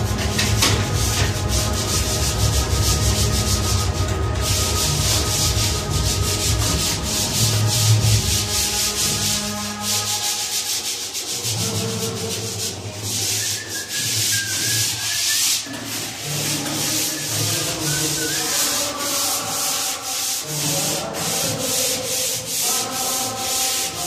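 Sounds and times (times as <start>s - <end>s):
sandpaper scratching on wall: 0.0s - 24.0s.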